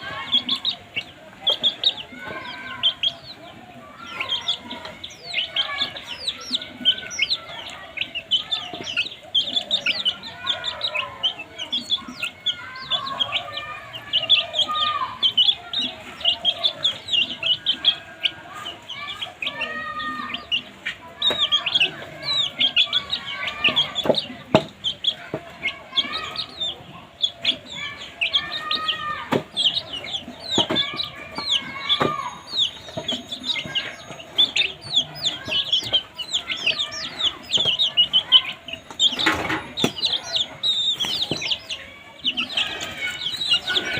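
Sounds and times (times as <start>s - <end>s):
baby chicks peeping: 0.0s - 43.9s.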